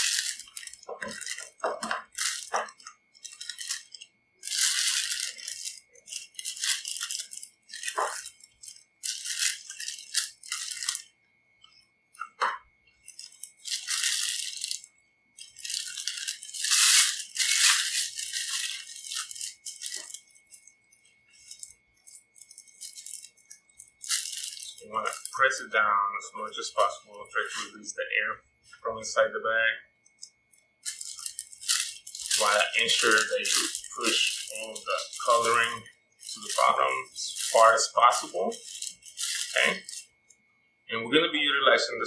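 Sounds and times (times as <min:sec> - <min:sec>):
plastic piping bag crinkling: 0:00.0 - 0:25.6, 0:30.2 - 0:40.2.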